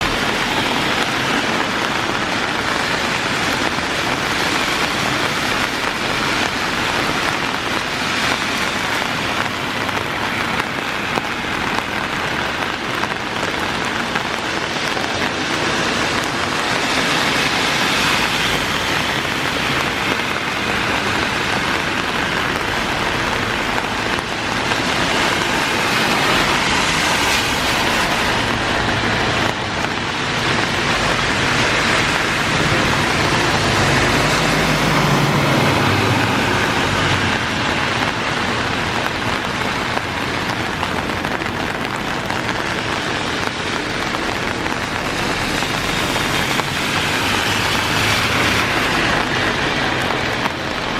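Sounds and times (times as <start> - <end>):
car tyres hissing on wet road: 0.0 - 50.9
heavy rain pouring: 0.0 - 50.9.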